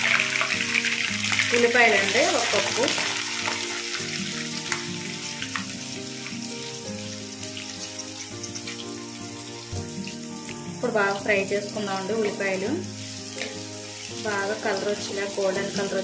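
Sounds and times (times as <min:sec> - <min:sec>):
background music sustained notes: 0:00.0 - 0:16.0
onions sizzling in hot oil: 0:00.0 - 0:16.0.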